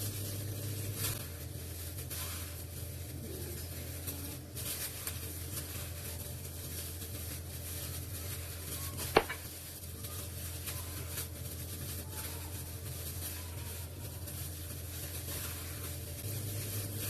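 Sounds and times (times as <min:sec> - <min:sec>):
rustling and scraping of utensils: 0:00.0 - 0:17.0
steady low hum: 0:00.0 - 0:17.0.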